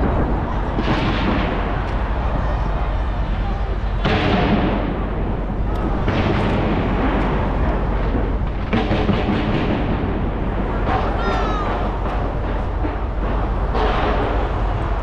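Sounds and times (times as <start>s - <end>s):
firework bangs: 0.0s - 15.0s
fireworks rumbling and crackling: 0.0s - 15.0s.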